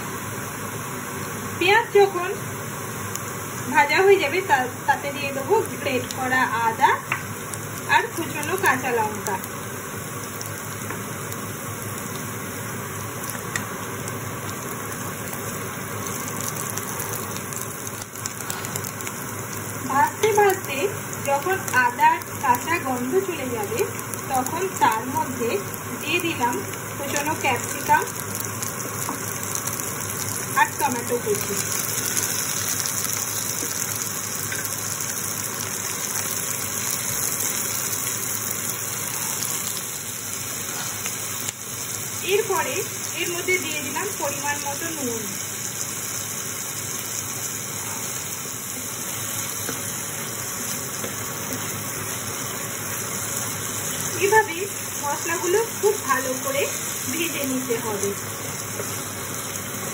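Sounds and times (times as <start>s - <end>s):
onions sizzling in oil: 0.0s - 59.9s.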